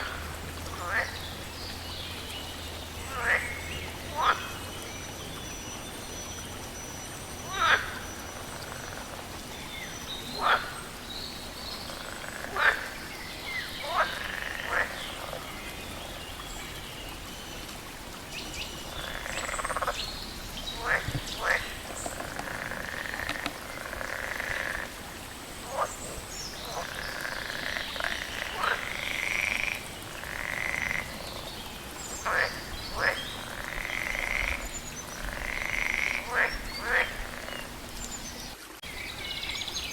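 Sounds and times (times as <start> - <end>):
frogs croaking: 0.0 - 39.9
steady background hiss: 0.0 - 39.9.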